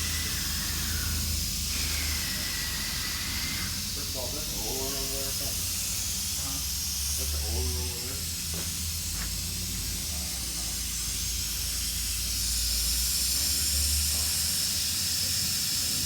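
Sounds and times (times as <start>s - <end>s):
high hiss: 0.0s - 16.0s
sawmill machinery humming: 0.0s - 16.0s.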